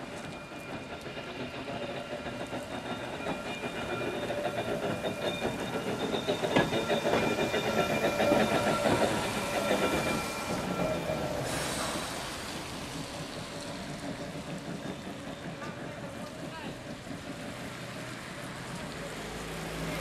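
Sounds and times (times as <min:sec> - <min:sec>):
steady tram whine: 0:00.0 - 0:20.0
tram wheels rattling on rails: 0:00.0 - 0:20.0.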